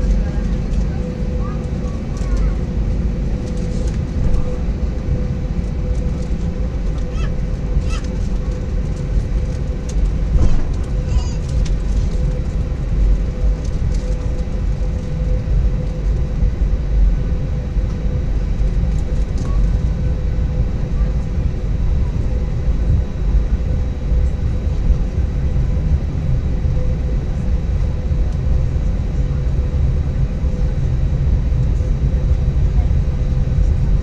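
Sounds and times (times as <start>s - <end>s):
aircraft engines rumbling: 0.0s - 34.0s
steady cabin hum: 0.0s - 34.0s.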